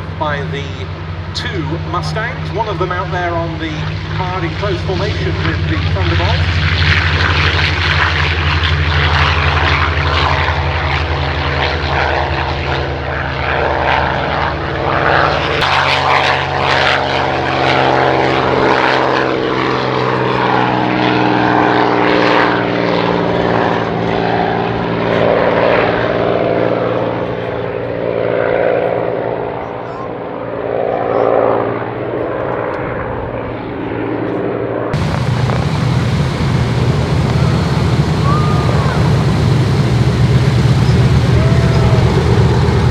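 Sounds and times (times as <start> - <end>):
propeller plane engines droning: 0.0 - 42.9.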